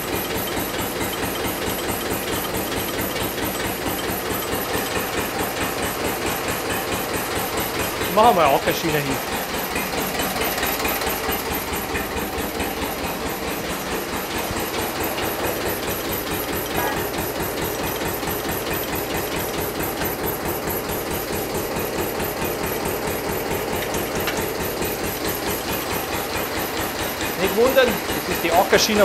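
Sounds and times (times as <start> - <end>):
diesel tractor engine idling: 0.0 - 29.0.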